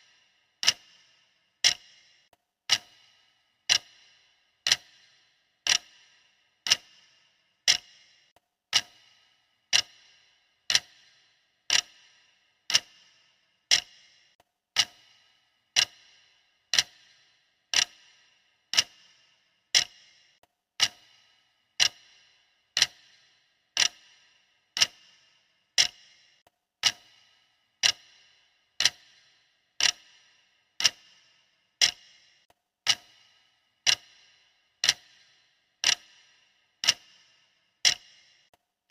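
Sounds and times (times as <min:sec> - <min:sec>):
clock ticks with bright ring: 0:00.0 - 0:38.9.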